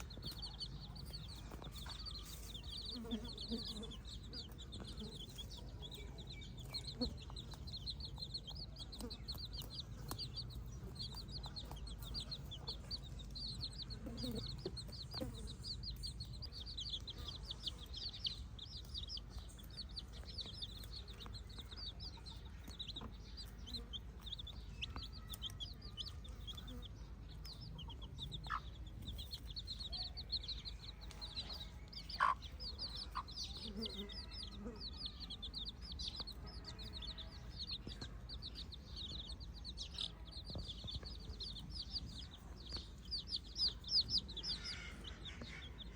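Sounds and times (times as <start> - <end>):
chickens chirping: 0.0 - 45.9
chickens clucking: 0.0 - 45.9.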